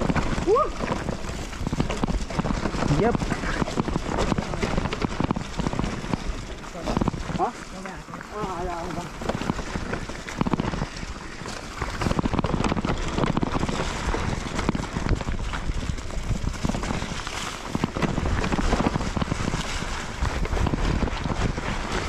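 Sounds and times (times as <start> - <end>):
bike rattling: 0.0 - 22.0
small knocks on rough trail: 0.0 - 22.0
wind buffeting microphone: 0.0 - 22.0.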